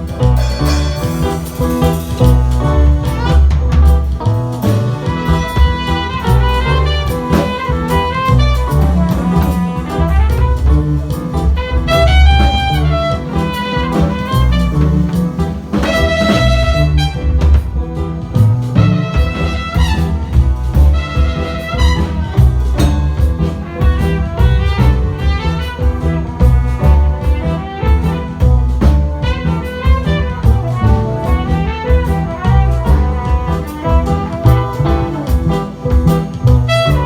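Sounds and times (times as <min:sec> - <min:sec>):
band playing instrumental music: 0:00.0 - 0:37.0.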